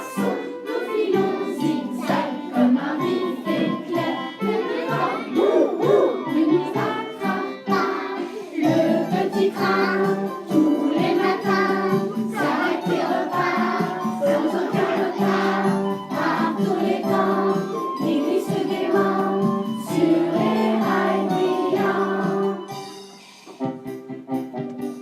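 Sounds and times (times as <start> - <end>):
children singing a song: 0.0 - 23.4
instrumental accompaniment: 0.0 - 25.0.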